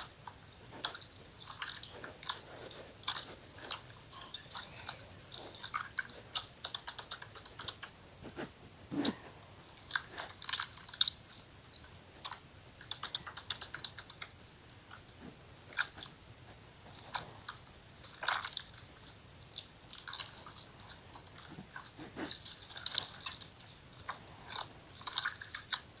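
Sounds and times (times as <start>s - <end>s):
slime squelching: 0.0s - 16.2s, 16.8s - 26.0s.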